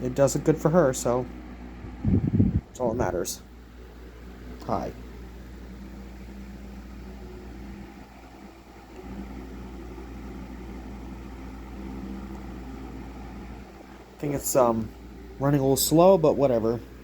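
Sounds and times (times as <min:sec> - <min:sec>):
table fan humming: 0:00.0 - 0:17.0.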